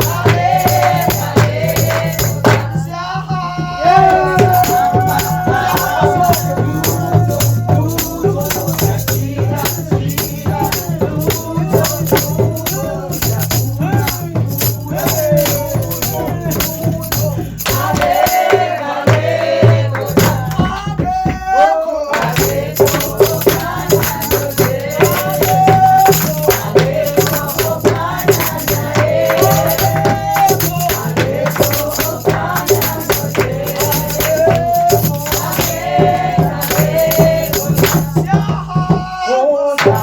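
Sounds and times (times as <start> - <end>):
hand rattles shaken: 0.0 - 2.8, 4.2 - 20.8, 22.2 - 38.4
group singing a worship chorus: 0.0 - 40.0.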